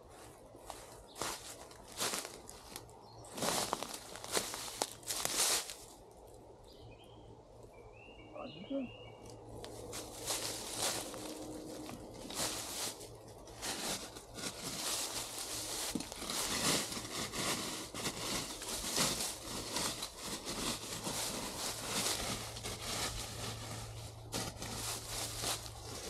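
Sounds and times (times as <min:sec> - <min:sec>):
dry brush rustling: 0:00.0 - 0:05.9, 0:09.6 - 0:26.0.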